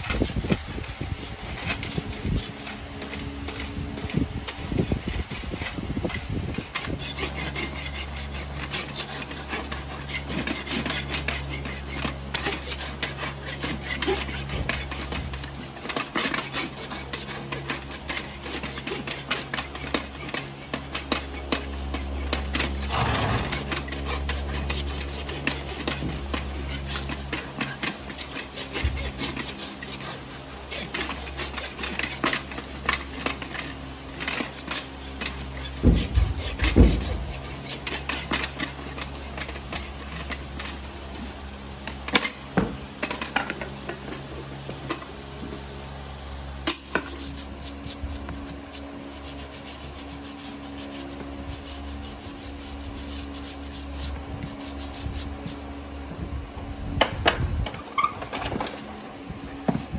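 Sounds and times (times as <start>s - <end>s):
rasp filing hoof: 0.0s - 56.0s.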